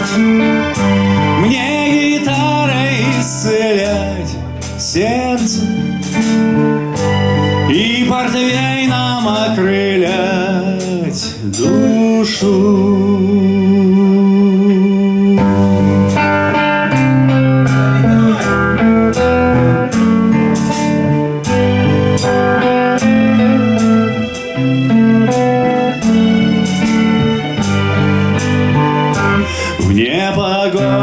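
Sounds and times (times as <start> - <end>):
drum kit: 0.0 - 14.5, 15.2 - 31.0
electric guitar solo: 0.0 - 31.0
keyboard accompaniment: 0.0 - 31.0.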